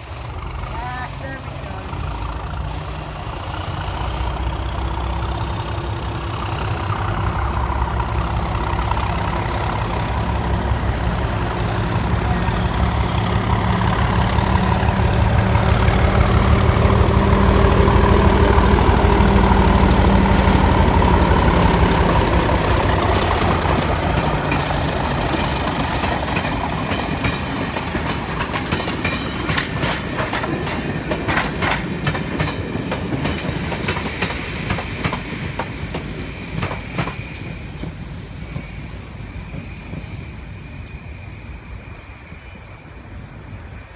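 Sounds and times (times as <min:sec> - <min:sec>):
diesel locomotive engine: 0:00.0 - 0:43.9
train wheels clicking over rail joints: 0:02.0 - 0:38.8.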